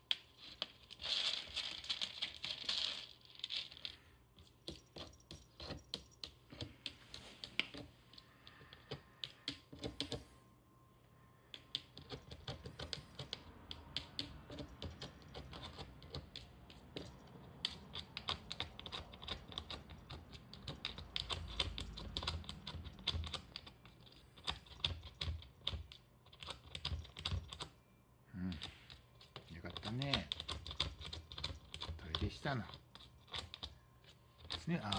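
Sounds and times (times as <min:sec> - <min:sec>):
cat scratching litter pellets: 0:00.0 - 0:10.2, 0:11.6 - 0:27.7, 0:28.5 - 0:34.9.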